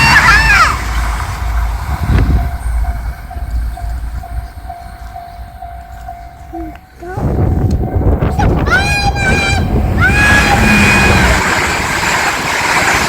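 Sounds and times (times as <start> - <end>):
crossing warning bell ringing: 0.0 - 13.0
train rumbling: 0.0 - 13.0.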